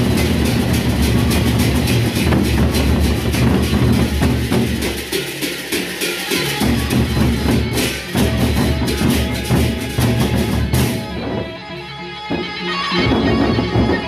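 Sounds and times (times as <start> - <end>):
hand cymbals clashing: 0.0 - 11.4
barrel drums beaten fast: 0.0 - 11.5.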